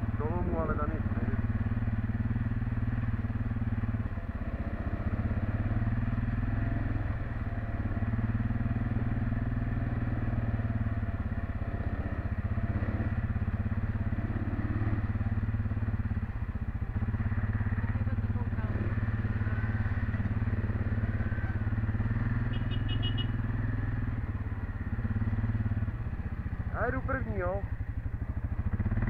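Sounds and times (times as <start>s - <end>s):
quad bike engine running: 0.0s - 29.0s.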